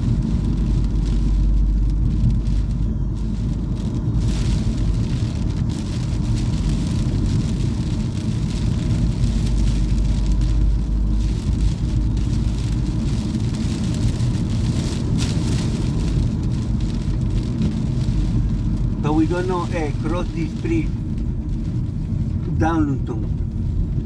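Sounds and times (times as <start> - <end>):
car engine rumble: 0.0 - 24.0
tyre noise on road: 0.0 - 24.0.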